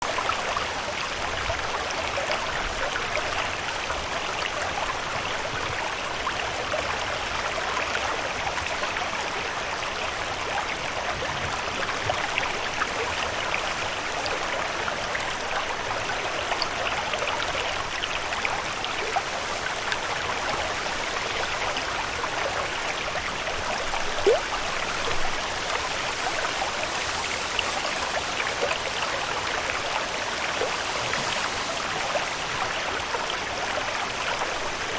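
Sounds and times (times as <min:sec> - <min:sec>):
water rushing and trickling: 0:00.0 - 0:34.9.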